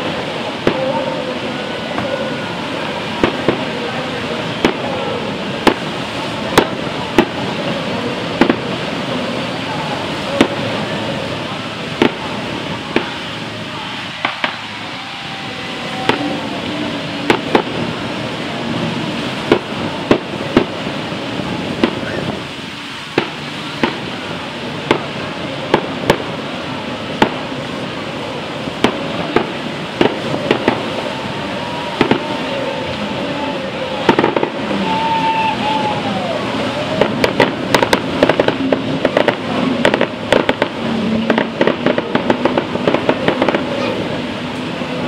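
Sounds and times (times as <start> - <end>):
outboard engines roaring: 0.0 - 45.0.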